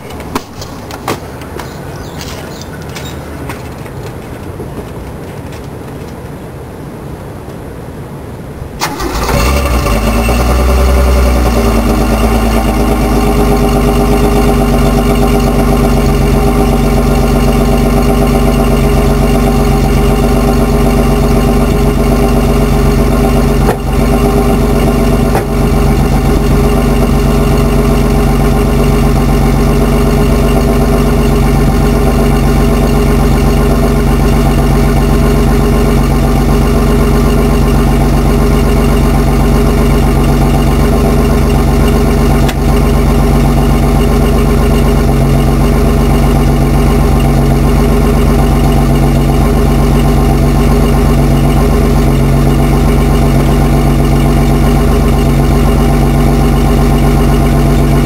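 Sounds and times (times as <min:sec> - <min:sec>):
car engine idling: 0:08.8 - 0:58.0.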